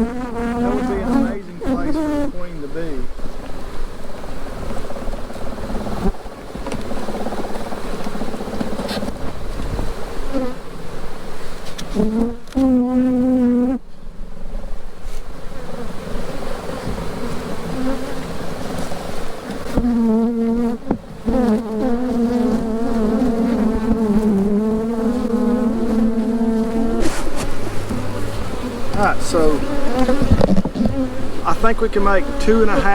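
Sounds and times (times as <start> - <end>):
bees humming: 0.0 - 13.9, 14.5 - 32.9
bee buzzing close past: 0.0 - 32.9.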